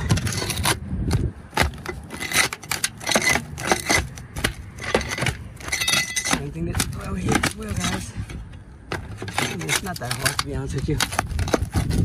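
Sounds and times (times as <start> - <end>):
metal scraping and rubbing: 0.0 - 0.9, 1.6 - 12.0.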